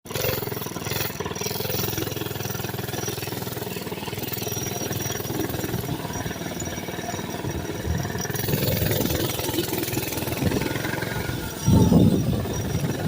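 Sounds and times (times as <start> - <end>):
small engine running: 0.1 - 13.0.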